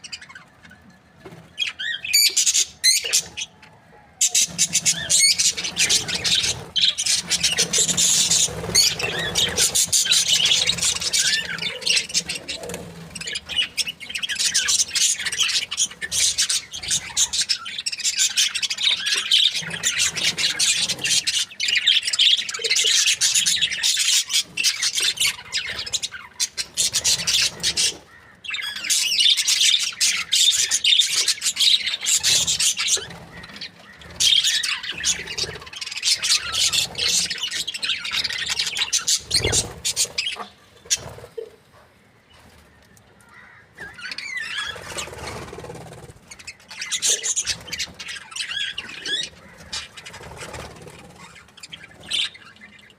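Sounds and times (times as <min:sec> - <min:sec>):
budgerigars chirping: 0:04.2 - 0:41.2, 0:43.5 - 0:52.9.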